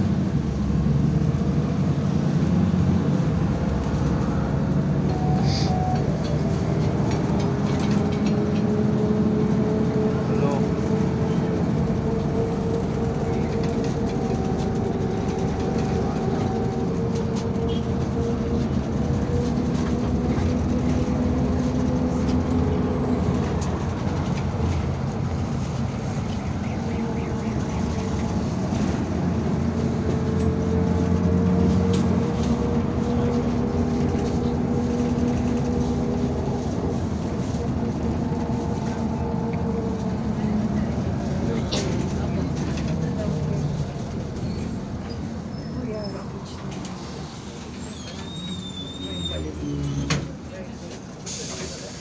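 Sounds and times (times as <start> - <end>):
bus engine and road rumble: 0.0 - 52.0.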